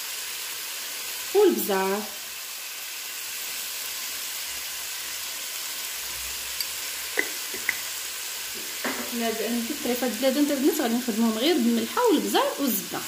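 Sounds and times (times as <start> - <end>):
meat sizzling in butter: 0.0 - 13.0.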